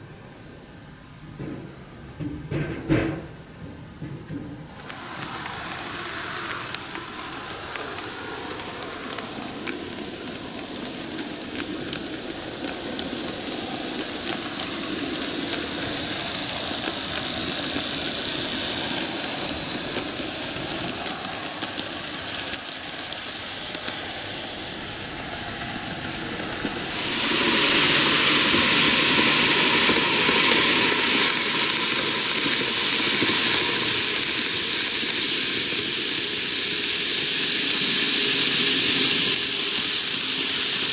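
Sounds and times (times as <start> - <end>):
model trains rolling on track: 4.7 - 40.9.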